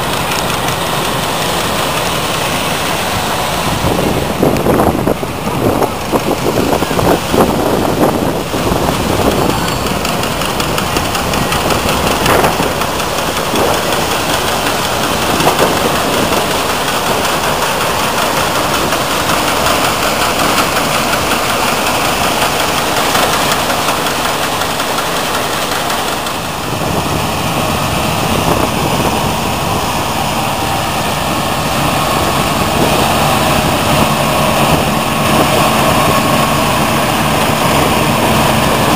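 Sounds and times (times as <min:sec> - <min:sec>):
combine harvester machinery running: 0:00.0 - 0:38.9
tractor engine: 0:00.0 - 0:38.9.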